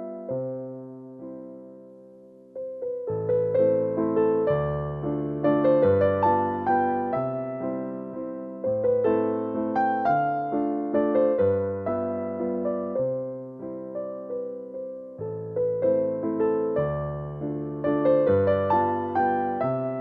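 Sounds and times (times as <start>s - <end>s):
gentle keyboard tune: 0.0s - 20.0s.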